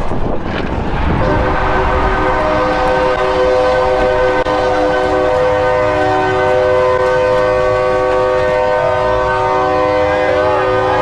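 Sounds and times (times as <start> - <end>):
air horn chord: 1.2 - 11.0.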